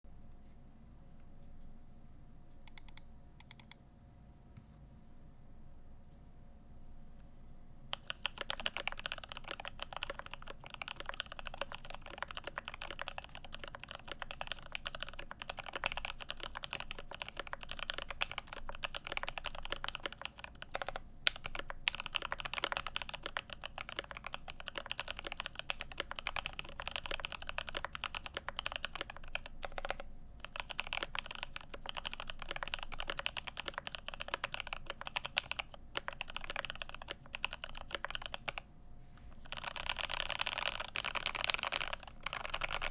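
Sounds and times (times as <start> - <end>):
mechanical keyboard typing: 2.7 - 3.8, 7.9 - 38.6, 39.4 - 42.9.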